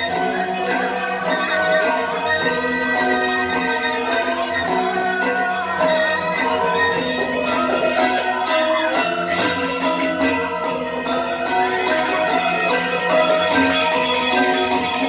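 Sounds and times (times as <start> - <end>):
jingling percussion beat: 0.0 - 15.0
tuned metal mallet percussion melody: 0.0 - 15.0.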